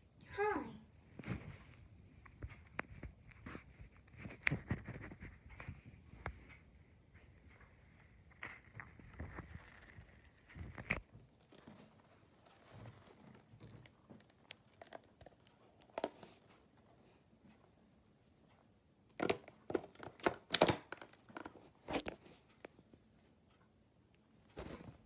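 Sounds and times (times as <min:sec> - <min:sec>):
soft clicks and rustles: 0:01.1 - 0:25.0.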